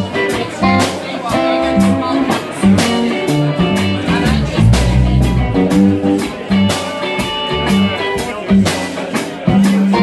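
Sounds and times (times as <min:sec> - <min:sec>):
live blues-rock band playing: 0:00.0 - 0:10.0.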